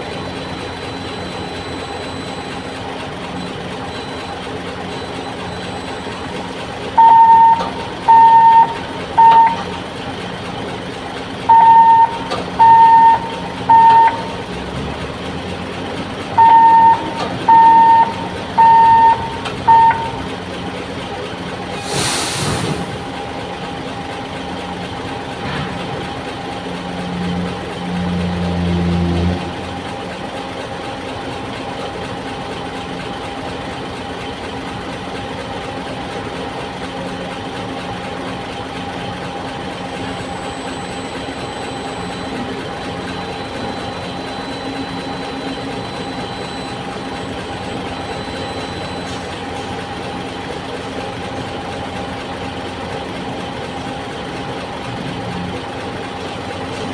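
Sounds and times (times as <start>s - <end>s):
diesel engine idling: 0.0s - 21.8s, 22.9s - 56.9s.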